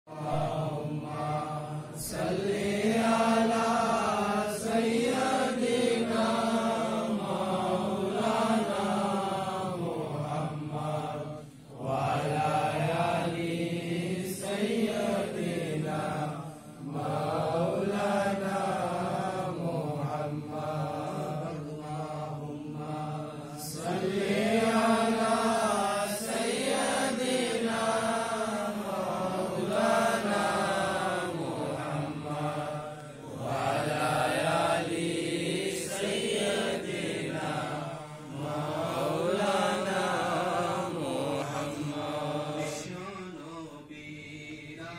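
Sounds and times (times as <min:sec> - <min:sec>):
men chanting together: 0:00.1 - 0:44.9.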